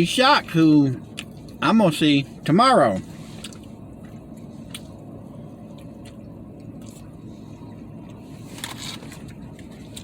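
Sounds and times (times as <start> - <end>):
truck cab rumble: 0.0 - 10.0.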